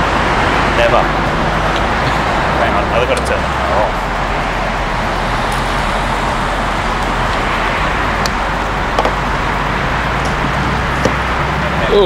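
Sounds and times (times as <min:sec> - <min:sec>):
low hum: 0:00.0 - 0:12.0
machinery noise: 0:00.0 - 0:12.0
traffic noise: 0:00.0 - 0:12.0.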